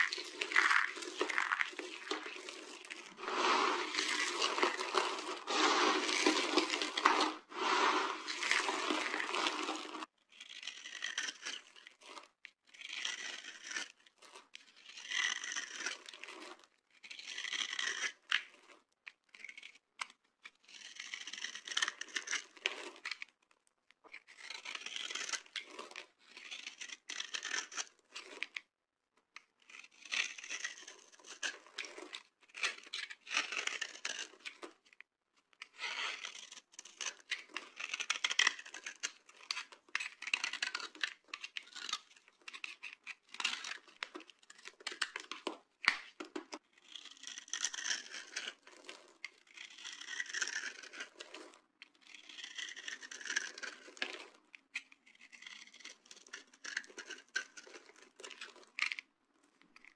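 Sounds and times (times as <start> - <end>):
knife scraping soap: 0.0 - 59.9.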